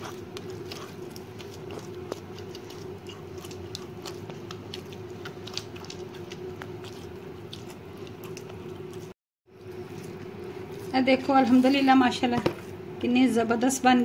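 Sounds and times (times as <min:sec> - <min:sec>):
hands kneading dough: 0:00.0 - 0:12.8
steady background hum: 0:00.0 - 0:14.0.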